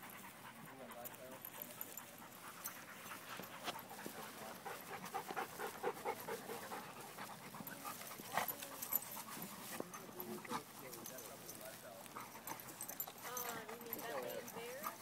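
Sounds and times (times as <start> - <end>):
dogs panting: 0.0 - 15.0
dogs scuffling: 0.7 - 15.0.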